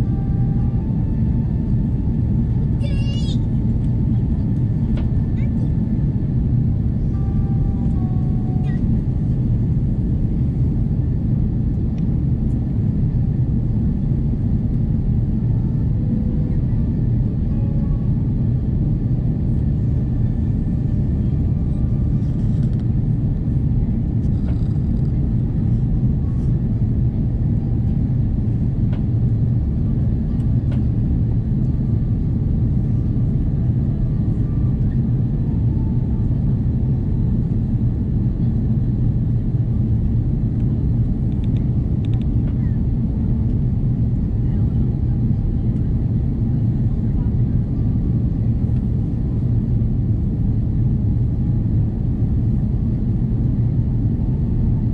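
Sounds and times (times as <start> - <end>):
aircraft cabin engine rumble: 0.0 - 54.9.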